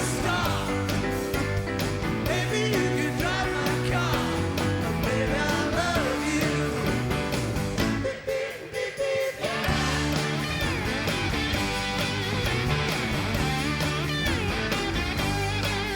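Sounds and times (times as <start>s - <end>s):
live rock band playing: 0.0s - 8.1s, 9.5s - 15.9s.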